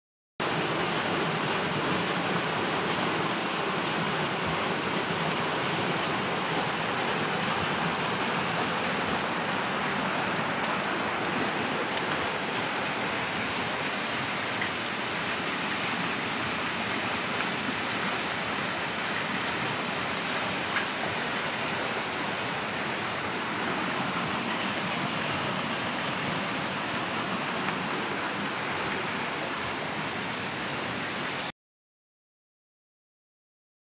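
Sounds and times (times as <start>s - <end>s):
floodwater rushing over rubble: 0.4s - 31.5s.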